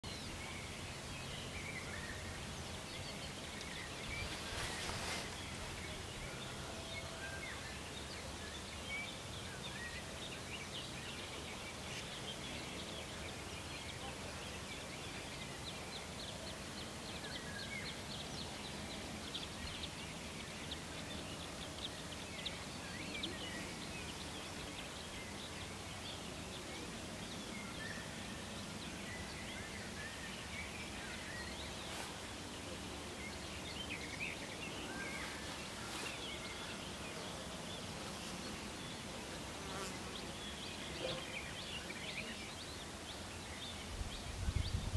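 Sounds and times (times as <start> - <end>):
small birds chirping: 0.0 - 44.9
steady low hiss: 0.0 - 44.9.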